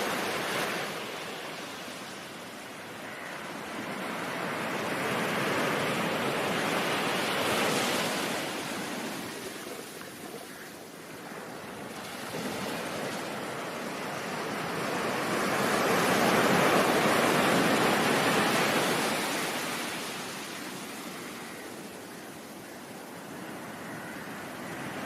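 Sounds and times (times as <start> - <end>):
ocean wave washing ashore: 0.0 - 22.5.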